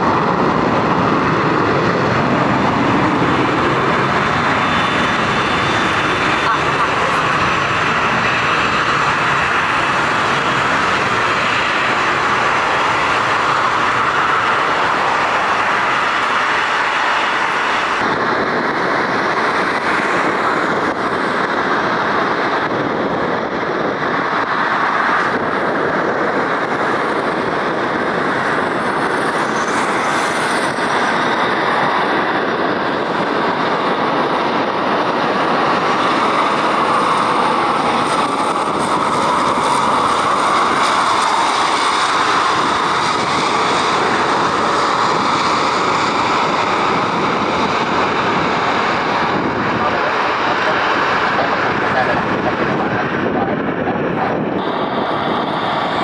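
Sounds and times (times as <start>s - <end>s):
aircraft engines roaring: 0.0s - 56.0s.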